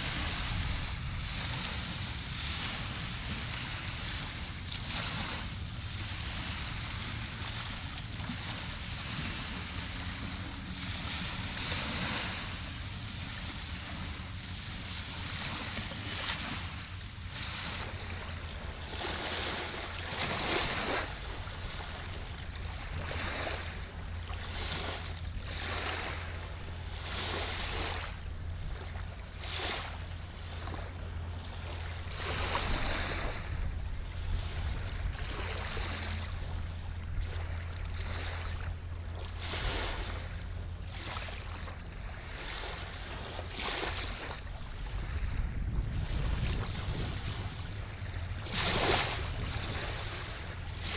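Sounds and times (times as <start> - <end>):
river water lapping: 0.0 - 50.9
steady low hum: 0.0 - 50.9
wind on microphone: 0.0 - 50.9.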